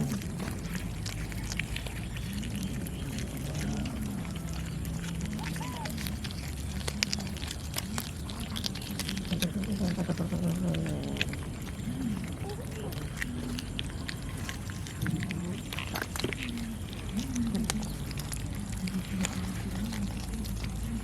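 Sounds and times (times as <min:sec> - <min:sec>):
cats vocalizing: 0:00.0 - 0:21.0
chewing clicks: 0:00.0 - 0:21.0.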